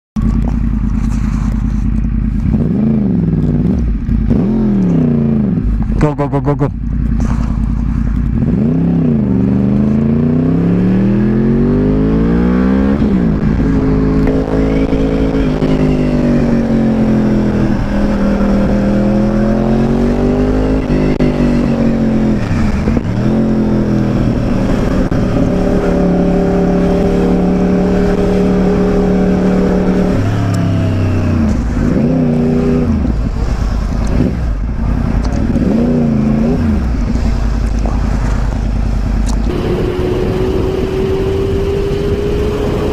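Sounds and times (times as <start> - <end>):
motorcycle engine accelerating: 0.2 - 42.9.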